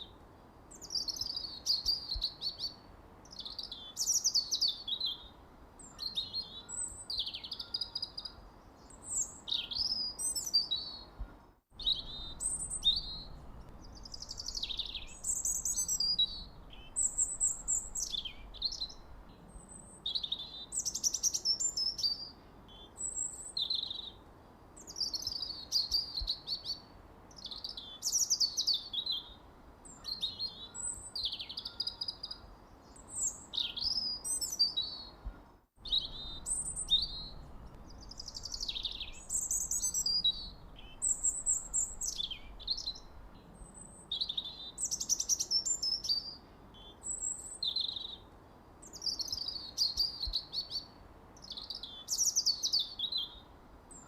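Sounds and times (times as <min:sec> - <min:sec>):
faint background hiss: 0:00.0 - 0:54.0
songbirds chirping: 0:00.0 - 0:54.0.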